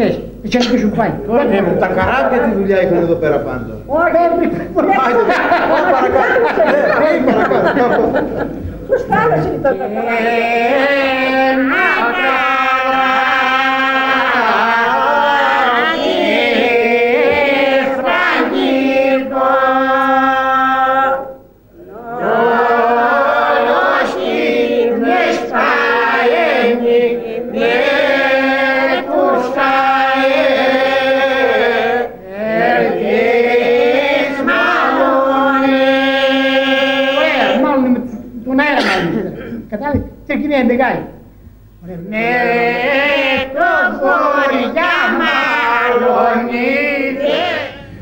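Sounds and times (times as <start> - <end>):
unaccompanied group singing: 4.5 - 39.0, 41.5 - 48.0.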